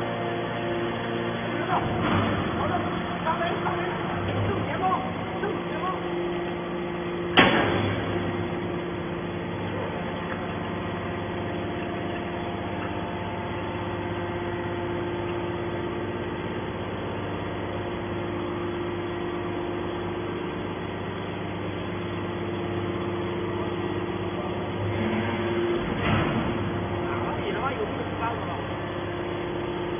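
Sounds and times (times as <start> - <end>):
hydraulic power unit humming: 0.0 - 29.9.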